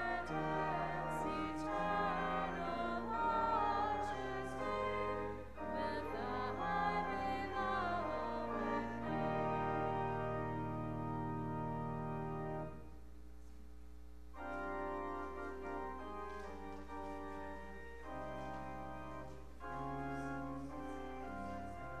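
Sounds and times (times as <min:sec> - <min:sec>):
church organ chords: 0:00.0 - 0:13.2, 0:14.2 - 0:22.0.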